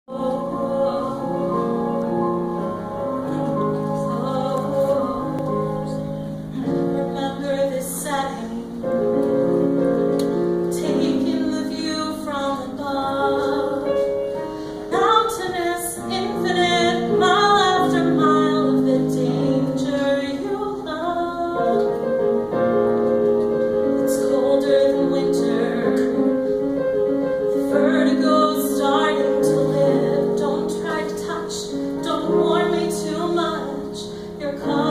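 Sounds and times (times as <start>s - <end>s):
person singing with vibrato: 0.0s - 9.1s, 10.7s - 22.5s, 23.9s - 26.6s, 27.5s - 34.9s
piano accompaniment: 0.0s - 34.9s.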